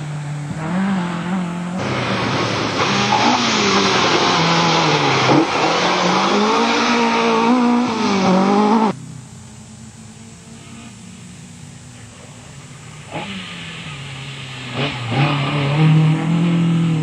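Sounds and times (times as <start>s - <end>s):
gravel hissing under tyres: 0.0s - 17.0s
rally car engine revving: 0.0s - 17.0s.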